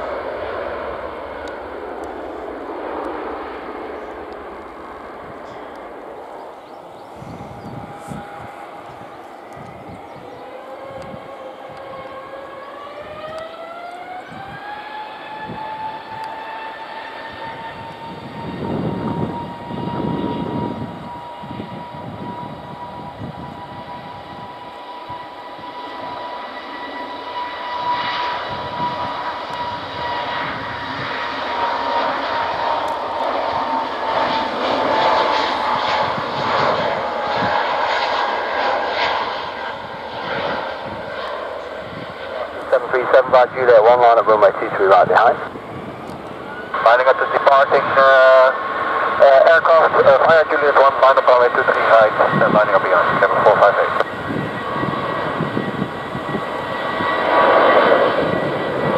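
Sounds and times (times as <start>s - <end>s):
jet engines spooling up with whine: 0.0s - 58.9s.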